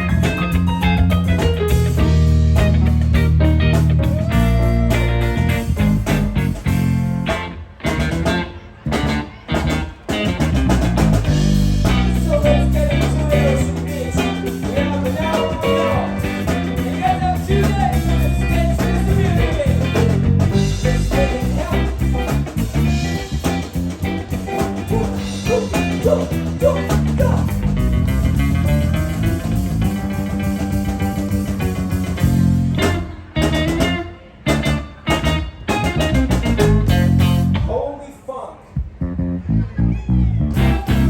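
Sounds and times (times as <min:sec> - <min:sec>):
live band with electric guitars: 0:00.0 - 0:37.8, 0:38.7 - 0:41.0.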